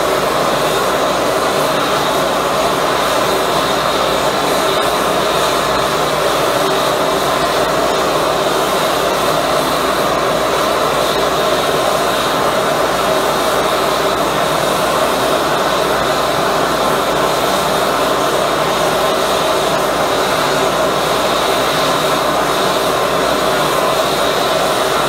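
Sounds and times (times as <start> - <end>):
propane burner roaring: 0.0 - 25.0.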